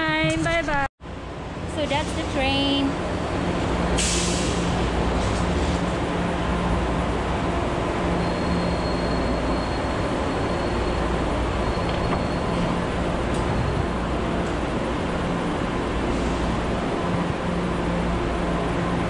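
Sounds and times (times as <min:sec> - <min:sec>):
trains humming and rumbling: 0:00.0 - 0:19.0.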